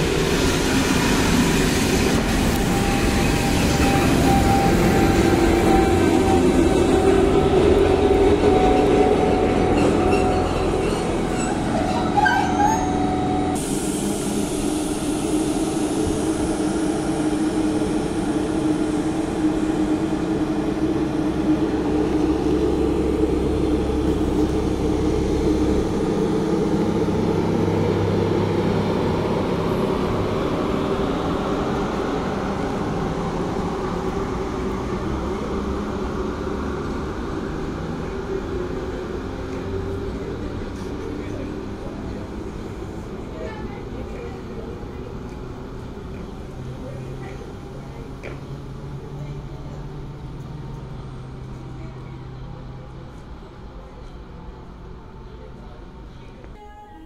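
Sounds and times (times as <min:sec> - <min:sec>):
electric locomotive humming: 0:00.0 - 0:57.0
train rumbling: 0:00.0 - 0:57.0.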